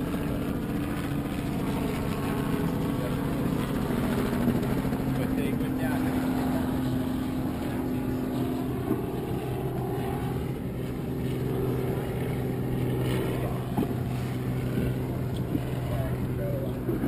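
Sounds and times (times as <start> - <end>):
choppy water against hull: 0.0 - 17.0
motorboat engine humming: 0.0 - 17.0.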